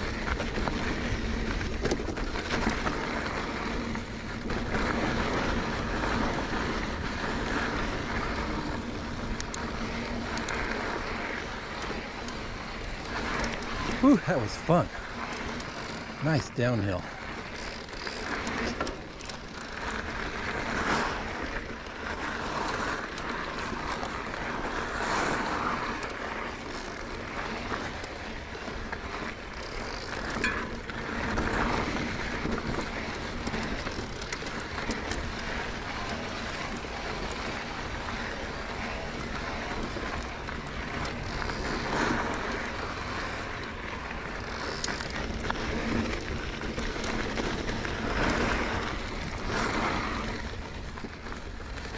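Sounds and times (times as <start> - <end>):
bike rattles and knocks: 0.0 - 16.3, 16.9 - 51.9
bike tyres on rocky trail: 0.0 - 51.9.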